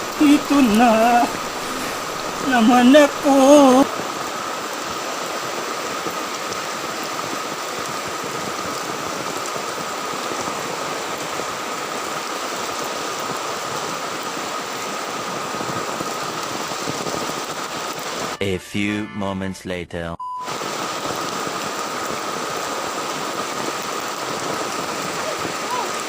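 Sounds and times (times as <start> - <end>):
heavy rain falling: 0.0 - 18.4, 20.5 - 26.0.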